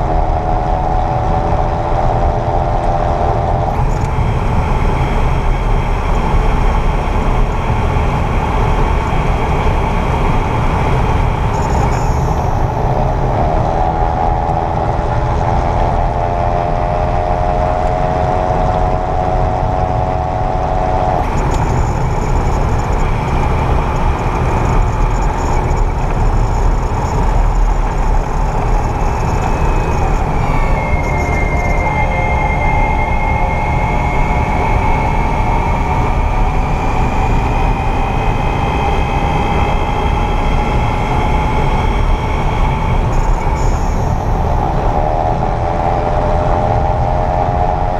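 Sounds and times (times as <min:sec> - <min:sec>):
electric car drivetrain whining: 0:00.0 - 0:47.9
low road rumble: 0:00.0 - 0:47.9.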